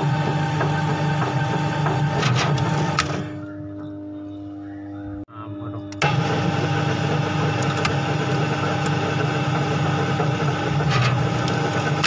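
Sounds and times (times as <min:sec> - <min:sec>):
electric motor and gears whirring: 0:00.0 - 0:04.2, 0:05.7 - 0:12.0.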